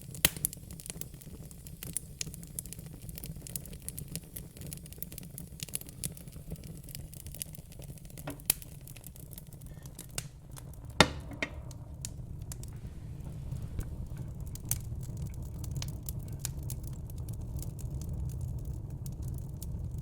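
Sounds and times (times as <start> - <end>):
fire crackling: 0.0 - 20.0
low steady fire rumble: 0.0 - 20.0.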